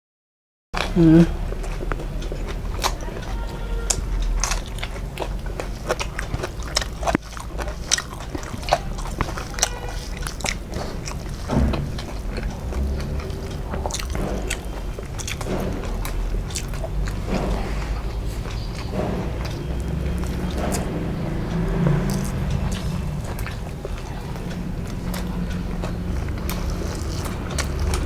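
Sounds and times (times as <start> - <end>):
person chewing crunchy food: 0.8 - 28.0.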